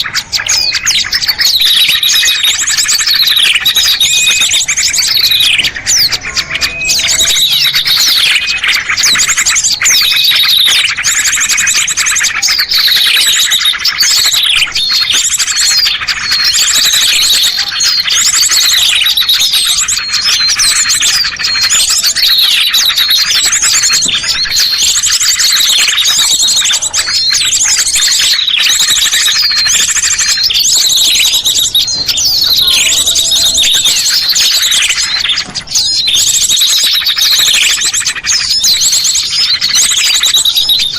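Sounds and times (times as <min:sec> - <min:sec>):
small songbirds chirping and trilling: 0:00.0 - 0:40.9.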